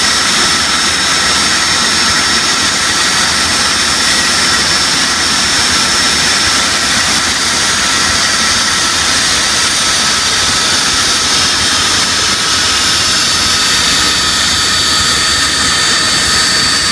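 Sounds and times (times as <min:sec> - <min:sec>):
high-pitched whine: 0:00.0 - 0:16.9
jet engines rushing: 0:00.0 - 0:16.9.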